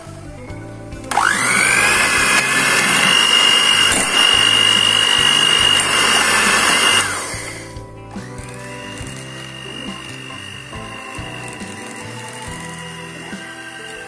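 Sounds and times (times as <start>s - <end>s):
electric hand mixer whining: 1.1s - 14.0s.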